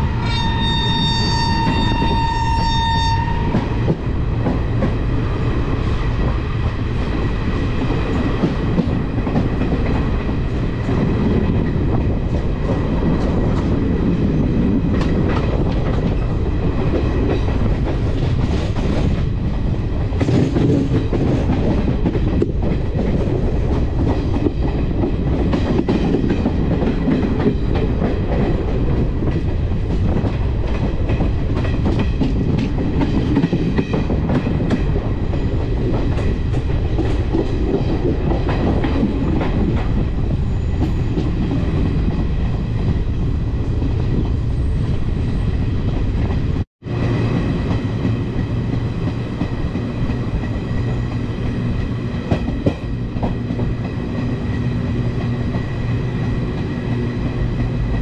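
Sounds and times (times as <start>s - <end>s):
train wheels rumbling on rails: 0.0s - 58.0s
clickety-clack over rail joints: 3.4s - 45.1s, 45.8s - 58.0s.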